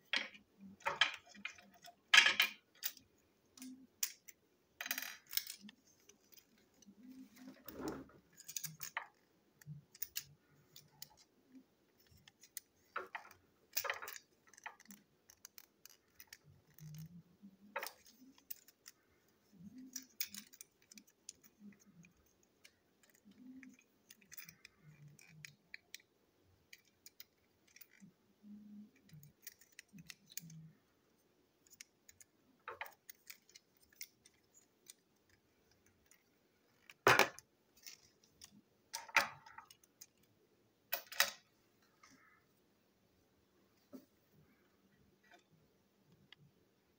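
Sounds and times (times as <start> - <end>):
plastic toy parts clicking: 0.1 - 7.2, 8.3 - 30.7, 31.6 - 40.3.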